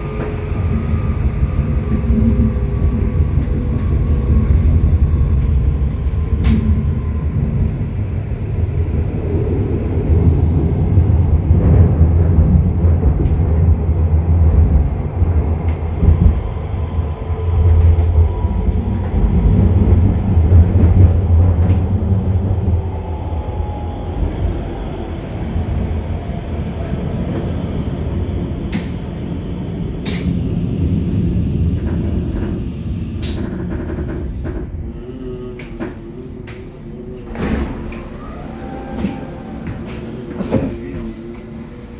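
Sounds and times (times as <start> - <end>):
subway train rumble: 0.0 - 41.9.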